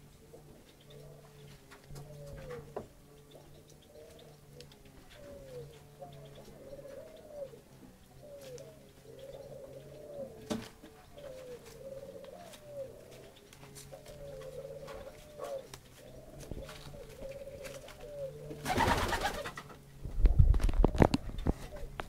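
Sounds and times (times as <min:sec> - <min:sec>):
pigeon cooing: 0:00.0 - 0:19.8, 0:20.8 - 0:22.0.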